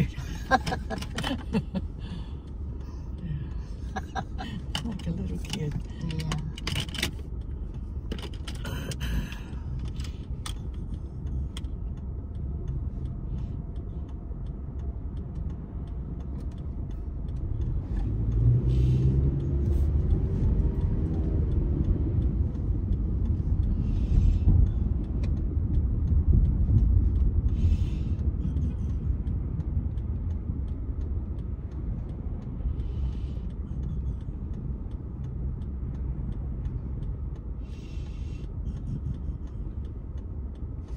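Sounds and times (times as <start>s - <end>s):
car road noise rumble: 0.0s - 40.9s.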